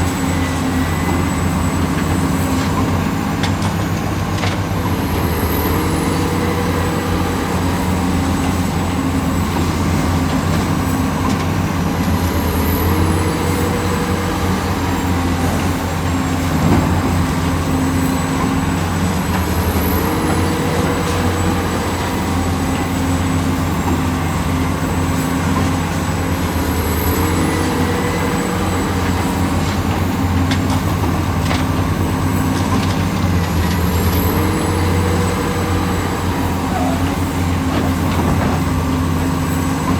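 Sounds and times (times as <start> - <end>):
excavator diesel engine running: 0.0 - 39.9
high hydraulic whine: 0.0 - 39.9.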